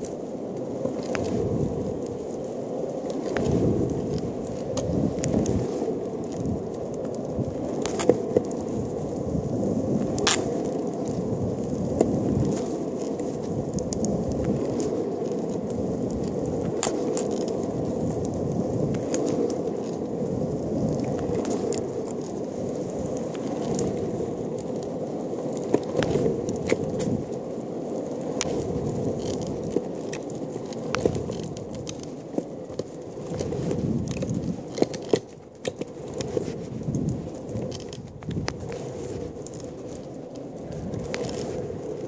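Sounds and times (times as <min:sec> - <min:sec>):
longboard wheels rolling on tarmac: 0:00.0 - 0:42.0.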